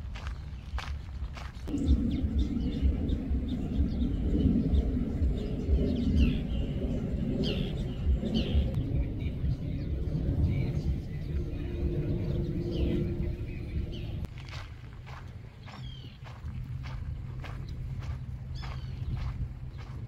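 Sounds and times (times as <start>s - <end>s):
low rumble: 0.0s - 20.0s
steady hum: 0.0s - 20.0s
bird chirps: 0.2s - 14.3s, 17.6s - 20.0s.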